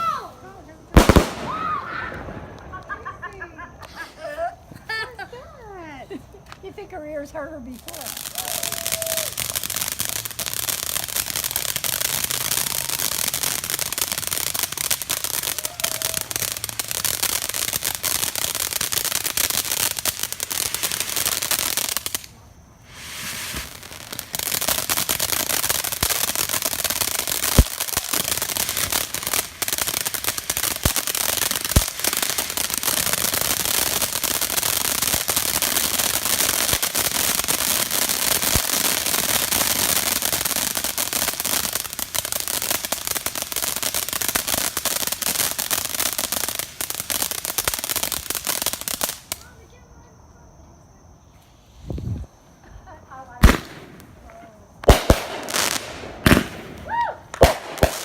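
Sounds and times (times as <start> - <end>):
fireworks crackling: 0.0 - 50.5, 51.5 - 58.0
loud firework bangs: 0.9 - 3.2, 8.1 - 49.6, 53.4 - 58.0.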